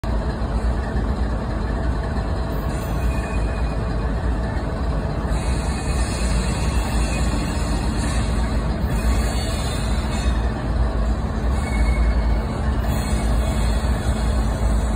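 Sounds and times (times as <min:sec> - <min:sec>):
locomotive engine rumble: 0:00.0 - 0:14.9.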